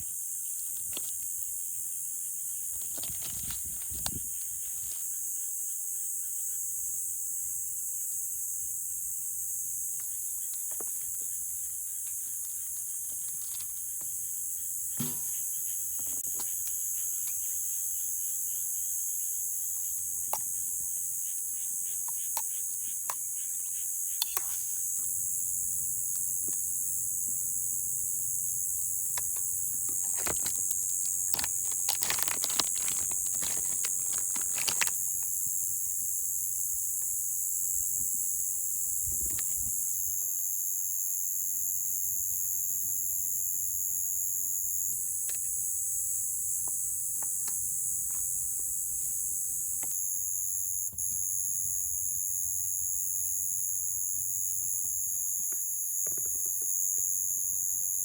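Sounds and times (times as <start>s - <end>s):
high-pitched insect chorus: 0.0s - 58.0s
intermittent insect layer: 0.0s - 58.0s.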